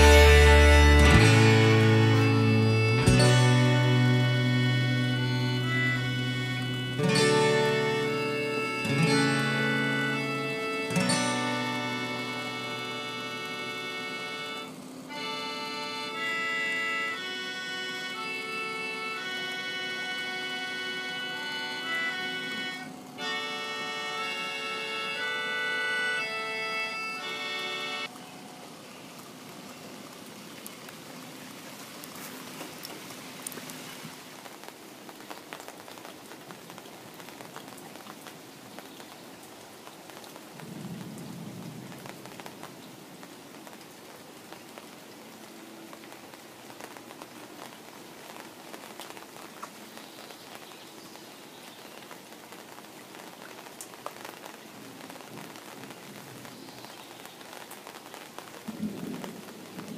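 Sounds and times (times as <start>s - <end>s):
rain falling on pond and leaves: 0.0s - 59.9s.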